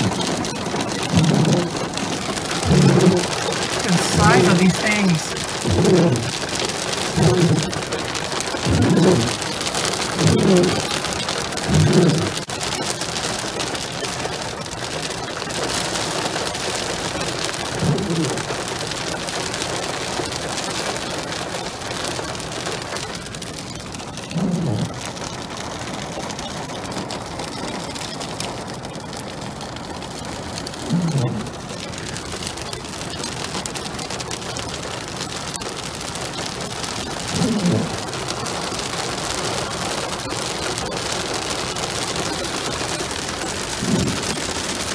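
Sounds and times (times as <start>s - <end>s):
hail and rain on car: 0.0s - 44.9s.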